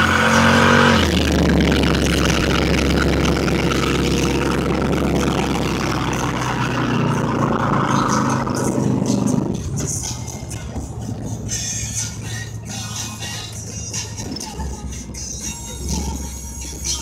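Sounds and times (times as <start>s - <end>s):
car engine revving high: 0.0s - 17.0s.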